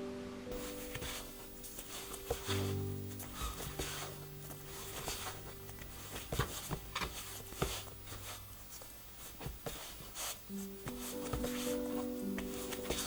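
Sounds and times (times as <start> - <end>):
faint background music: 0.0 - 13.0
dough thumps and slaps: 0.9 - 13.0.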